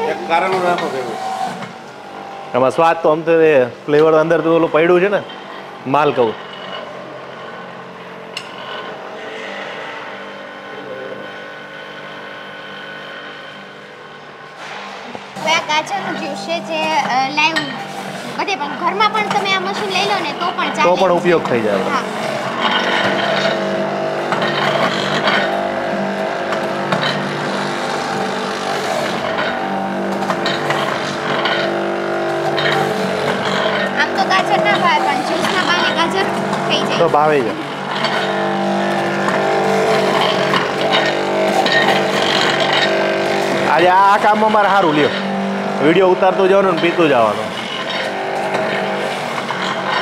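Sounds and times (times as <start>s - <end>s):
machine hum with pitched drone: 0.0s - 50.0s.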